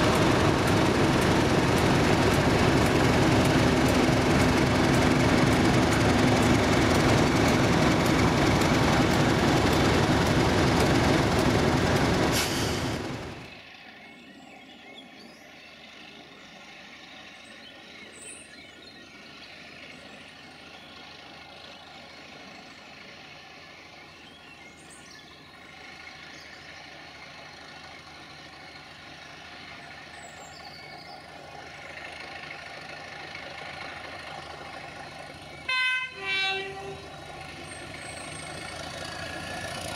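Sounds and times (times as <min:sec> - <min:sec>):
locomotive engine running: 0:00.0 - 0:14.8, 0:15.4 - 0:39.9.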